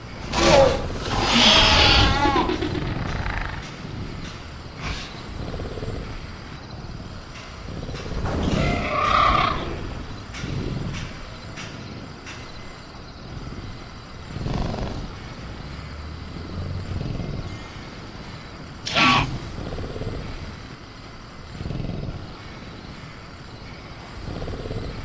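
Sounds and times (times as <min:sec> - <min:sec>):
damp jungle ambience: 0:00.0 - 0:25.0
dinosaur growls and breaths: 0:00.0 - 0:25.0
faint crickets: 0:00.0 - 0:25.0.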